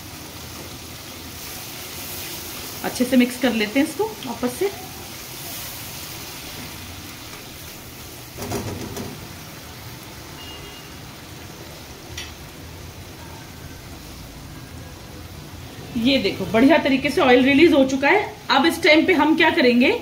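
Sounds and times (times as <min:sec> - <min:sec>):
paste sizzling in oil: 0:00.0 - 0:19.7.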